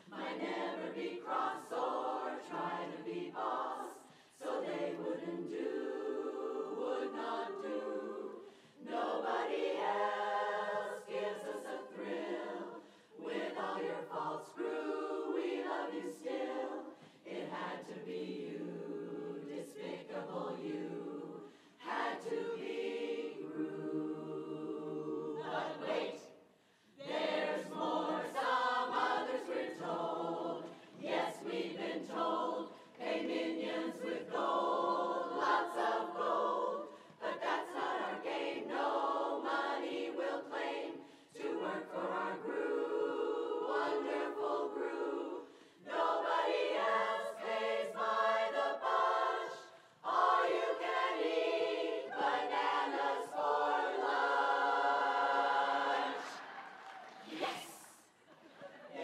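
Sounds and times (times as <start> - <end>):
women's chorus singing a cappella: 0.0 - 59.0.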